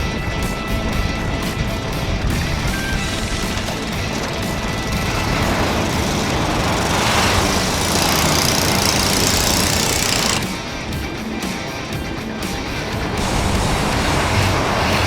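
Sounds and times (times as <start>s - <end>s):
loud rushing noise: 0.0s - 15.0s
small engine chugging: 0.0s - 15.0s.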